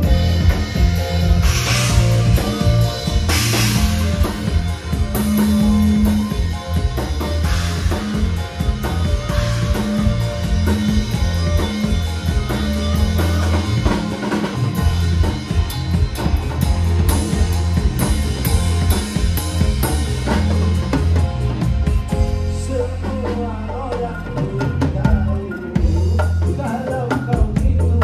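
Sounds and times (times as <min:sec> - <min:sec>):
drum kit and hand drums beat: 0:00.0 - 0:28.0
live band music: 0:00.0 - 0:28.0
low bass line: 0:00.0 - 0:28.0.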